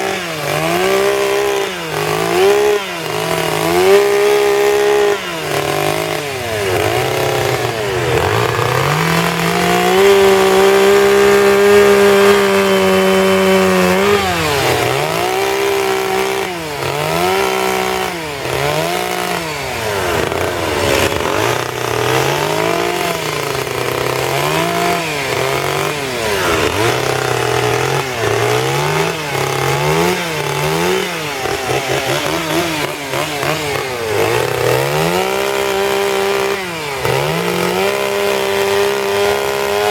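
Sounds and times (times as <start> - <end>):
chainsaw revving while cutting wood: 0.0 - 39.9.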